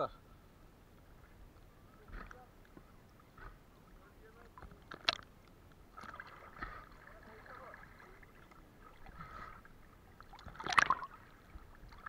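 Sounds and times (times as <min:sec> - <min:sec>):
seawater sloshing and lapping: 0:02.1 - 0:12.0.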